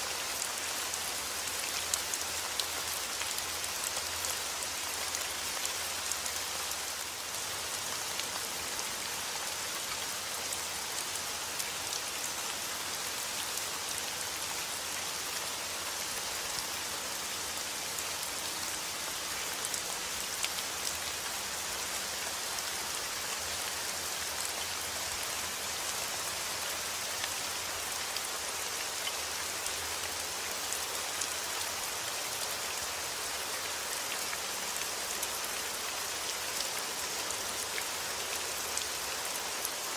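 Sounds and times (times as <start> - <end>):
heavy rain: 0.0 - 39.9
rain drops ticking: 0.1 - 39.9.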